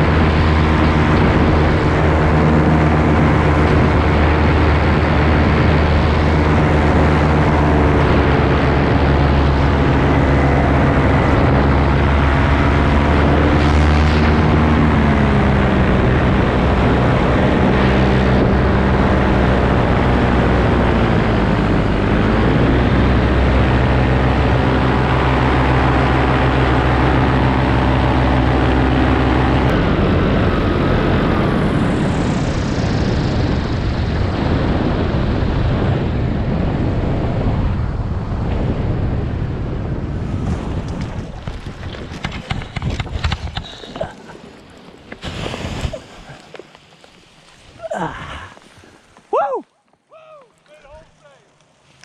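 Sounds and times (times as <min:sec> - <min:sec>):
paramotor engine and propeller: 0:00.0 - 0:49.2
wind on microphone: 0:00.0 - 0:49.2.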